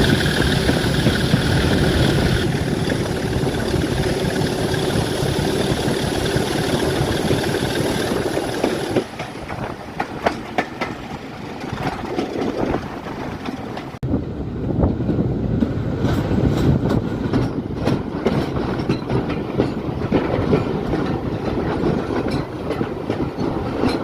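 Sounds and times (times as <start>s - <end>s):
wheels clicking over rail joints: 0.0s - 14.0s, 14.9s - 24.0s
locomotive running: 0.0s - 24.0s.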